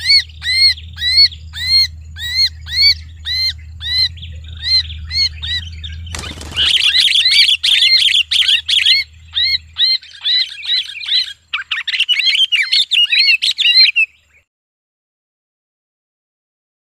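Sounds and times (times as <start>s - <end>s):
bird screaming in distress: 0.0s - 14.1s.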